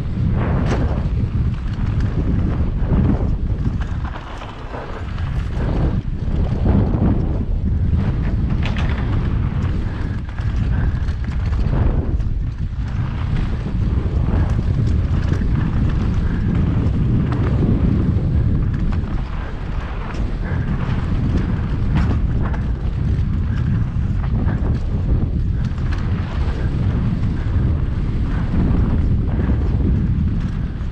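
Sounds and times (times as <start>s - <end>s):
bike clicking and rattling: 0.0s - 30.9s
bike tyres on dirt: 0.0s - 30.9s
wind rumble on microphone: 0.0s - 30.9s.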